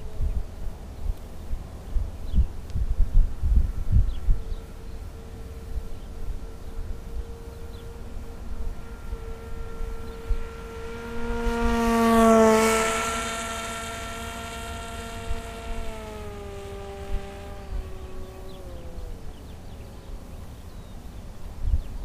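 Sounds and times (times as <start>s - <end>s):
model airplane propeller drone: 0.0s - 22.0s.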